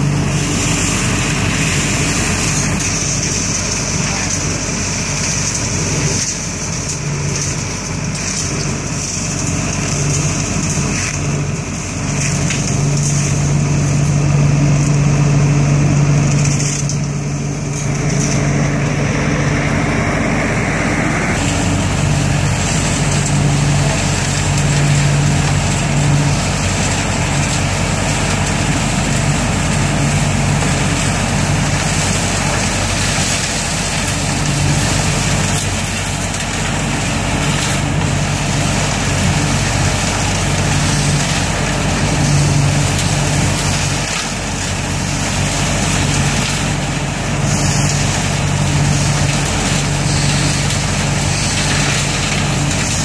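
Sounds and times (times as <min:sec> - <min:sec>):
fan rushing: 0:00.0 - 0:53.0
leaf vacuum engine hum: 0:00.0 - 0:53.0.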